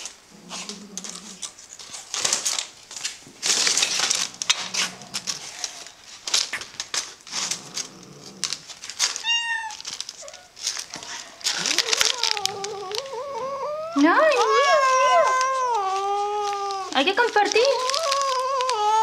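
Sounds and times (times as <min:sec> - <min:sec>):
cat crunching dry snacks: 0:00.0 - 0:19.0.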